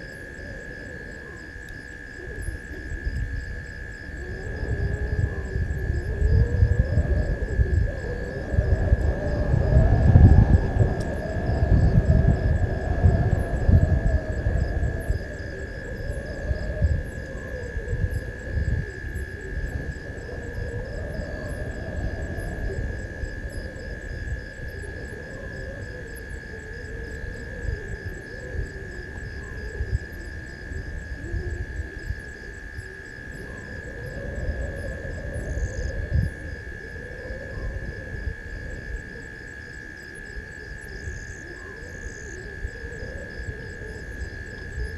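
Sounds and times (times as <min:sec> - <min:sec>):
constant high whine: 0:00.0 - 0:44.9
insects and crickets chirring: 0:00.0 - 0:44.9.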